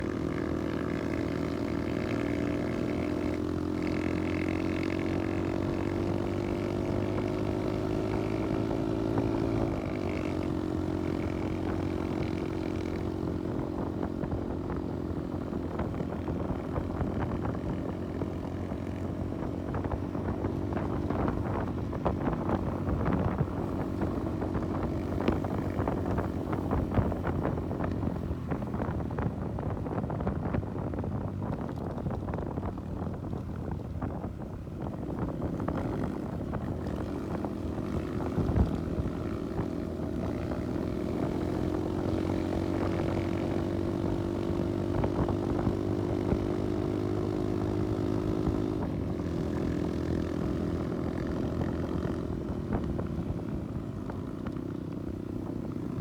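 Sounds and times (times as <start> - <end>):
motorcycle engine running: 0.0 - 56.0
wind buffeting microphone: 4.4 - 56.0.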